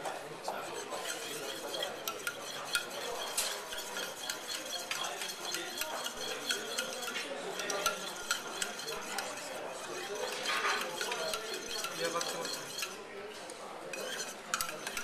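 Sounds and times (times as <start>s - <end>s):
knife scraping metal canister: 0.7s - 13.0s, 13.9s - 15.0s.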